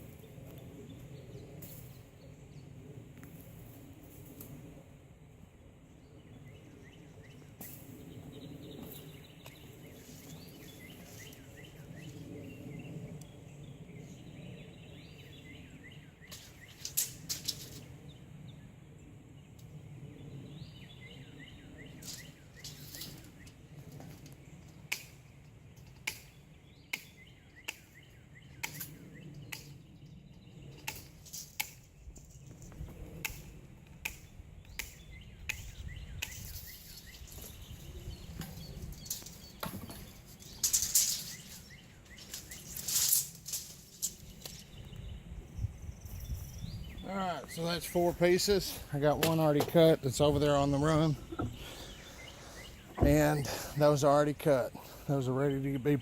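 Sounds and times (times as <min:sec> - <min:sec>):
small birds chirping: 0:06.0 - 0:56.0.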